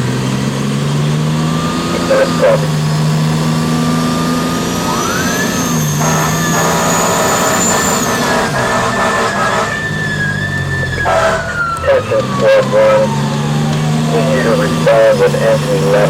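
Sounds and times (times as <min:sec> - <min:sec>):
fire engine siren: 0:00.0 - 0:16.0
truck engine running: 0:00.0 - 0:16.0.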